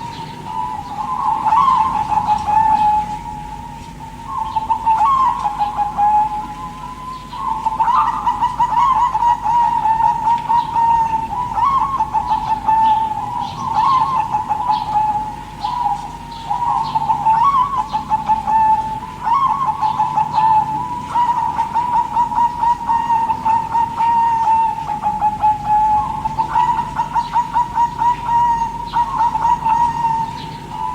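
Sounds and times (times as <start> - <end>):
doves cooing: 0.0 - 30.9.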